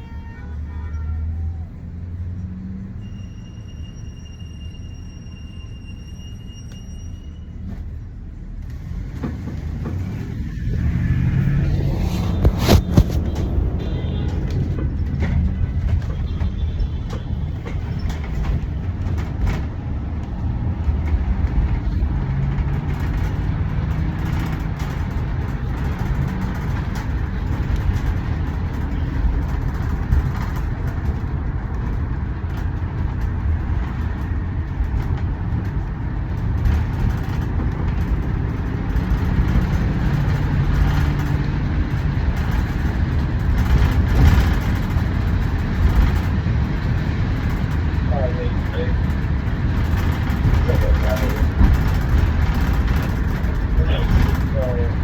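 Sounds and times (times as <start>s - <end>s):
traffic rumble: 0.0s - 55.0s
low engine hum: 7.7s - 55.0s.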